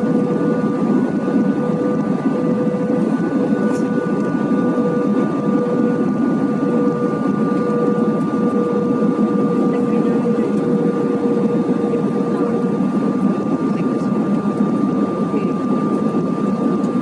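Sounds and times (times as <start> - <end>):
airplane cabin roar: 0.0 - 17.0
constant hum tones: 0.0 - 17.0.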